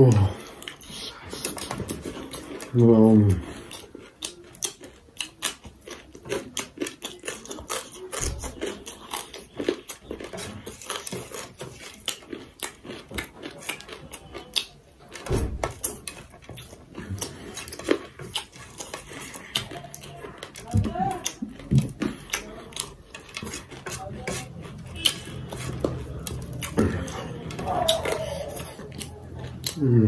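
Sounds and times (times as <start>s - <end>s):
mouth clicks and chewing: 0.0s - 30.0s.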